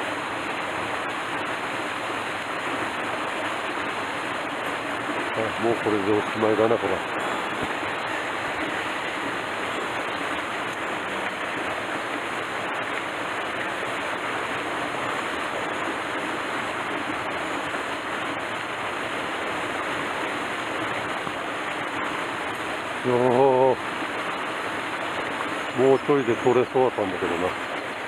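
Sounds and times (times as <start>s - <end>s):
mountain stream rushing: 0.0s - 28.0s
small waterfall into pool: 0.0s - 28.0s.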